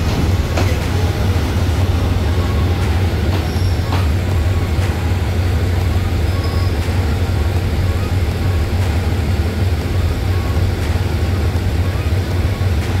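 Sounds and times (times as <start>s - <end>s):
diesel locomotive engine humming: 0.0s - 13.0s
train rolling slowly: 0.0s - 13.0s.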